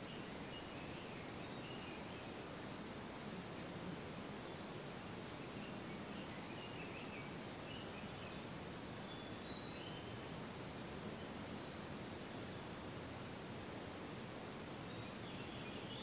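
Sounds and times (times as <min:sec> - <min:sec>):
background hiss: 0:00.0 - 0:16.0
songbirds chirping faintly: 0:00.0 - 0:16.0.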